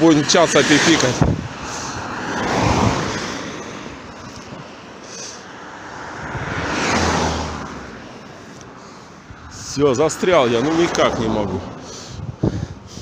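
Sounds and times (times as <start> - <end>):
cars passing by: 0.0 - 13.0.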